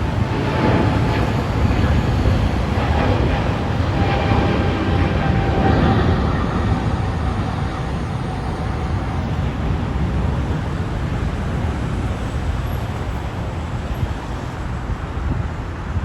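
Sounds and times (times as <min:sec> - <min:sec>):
jet engines at takeoff power: 0:00.0 - 0:16.0.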